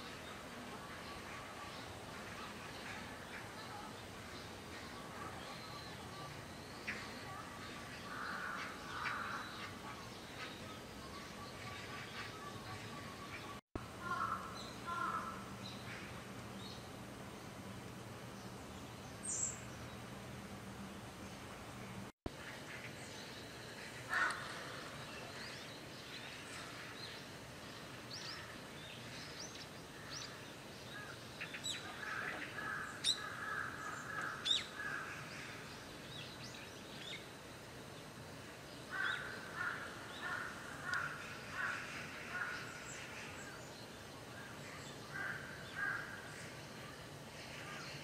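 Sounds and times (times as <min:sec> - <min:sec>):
outdoor background hiss: 0:00.0 - 0:48.0.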